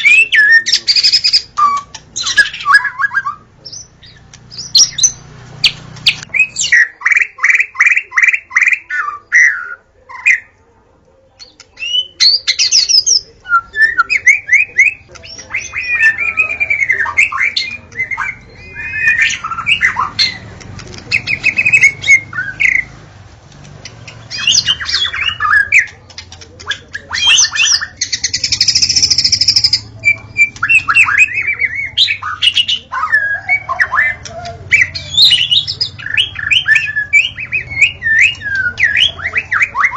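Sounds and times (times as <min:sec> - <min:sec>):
songbird singing whistles and trills: 0:00.0 - 0:10.6, 0:11.4 - 0:23.0, 0:23.8 - 0:39.9.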